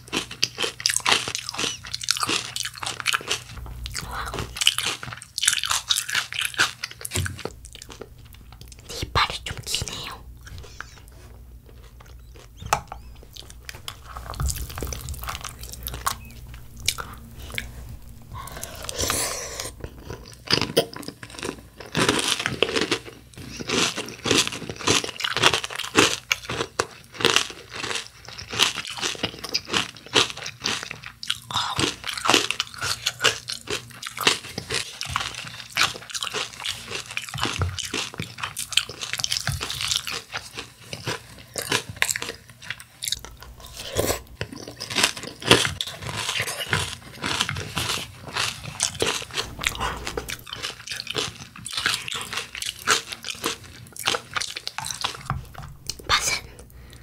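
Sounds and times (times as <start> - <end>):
crunchy cereal chewing: 0.0 - 57.0.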